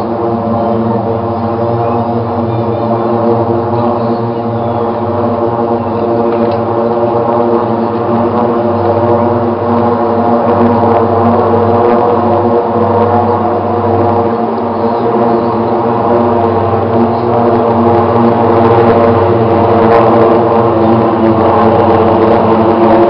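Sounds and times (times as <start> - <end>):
propeller aircraft drone: 0.0 - 23.0.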